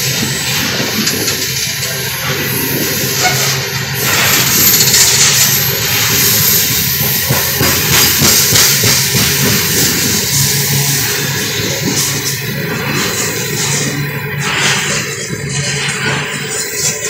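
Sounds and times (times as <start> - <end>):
clicks and clanks of train cars: 0.0 - 17.0
train wheels rumbling on rails: 0.0 - 17.0.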